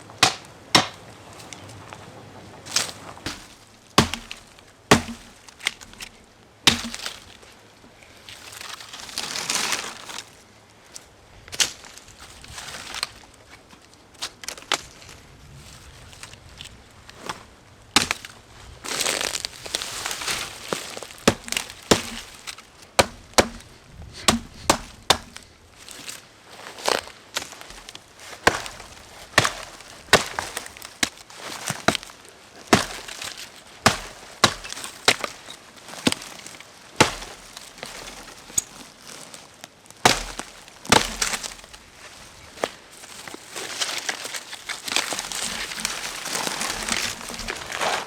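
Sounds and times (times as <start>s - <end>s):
dry branches cracking and snapping: 0.1s - 2.0s, 2.6s - 48.0s.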